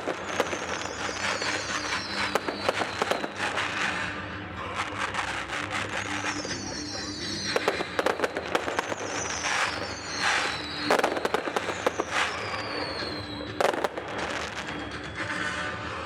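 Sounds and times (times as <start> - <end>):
falling firework whistles: 0.0 - 4.2, 4.8 - 16.0
fireworks bangs and crackles: 0.0 - 16.0.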